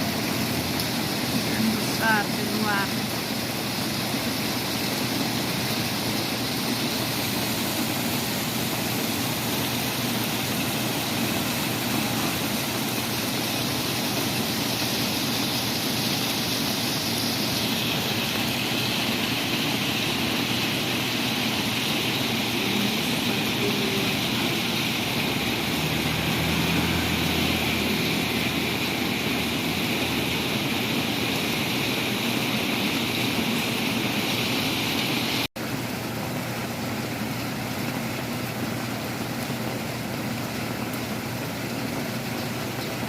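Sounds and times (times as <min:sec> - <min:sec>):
heavy rain in wind: 0:00.0 - 0:43.0.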